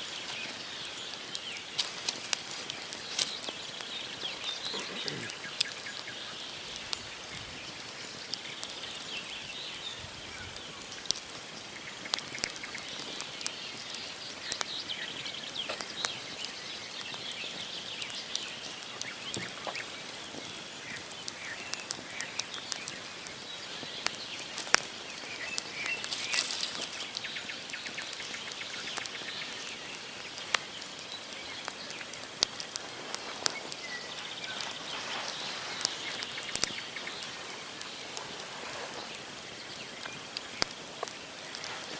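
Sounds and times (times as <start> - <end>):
campfire crackling and popping: 0.0 - 41.9
small birds chirping: 0.0 - 41.9.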